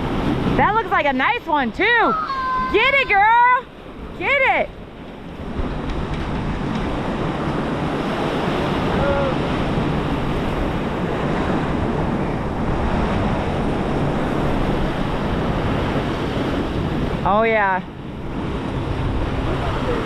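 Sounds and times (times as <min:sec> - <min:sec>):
ocean surf washing against jetty: 0:00.0 - 0:20.0
wind buffeting microphone: 0:00.0 - 0:20.0.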